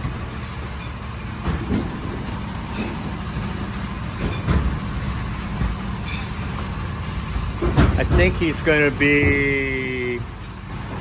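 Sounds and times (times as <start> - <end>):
knocks and clatter: 0.0 - 9.5.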